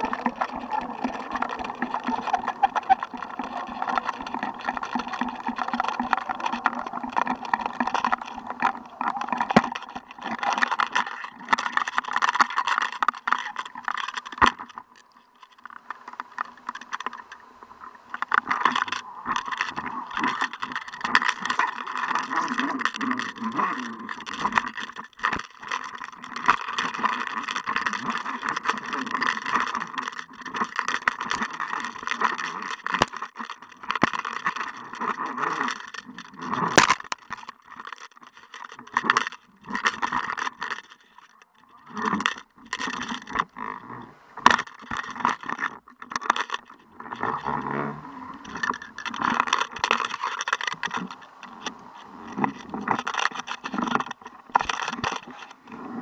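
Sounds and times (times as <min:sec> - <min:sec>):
fishing rig rattling and scraping: 0:00.0 - 0:56.0.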